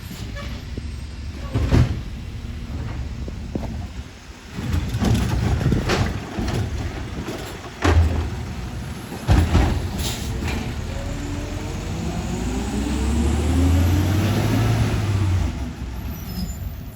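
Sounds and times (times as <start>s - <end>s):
garbage truck engine running: 0.0s - 16.9s.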